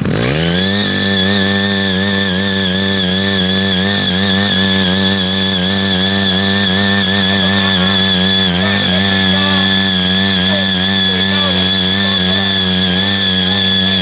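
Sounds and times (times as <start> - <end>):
small engine running at high revs: 0.0 - 14.0
high whine: 0.6 - 14.0.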